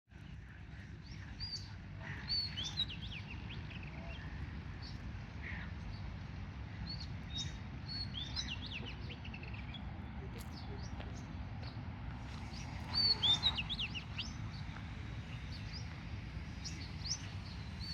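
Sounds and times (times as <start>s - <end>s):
steady low rumble: 0.1s - 17.9s
small birds chirping: 0.2s - 17.9s.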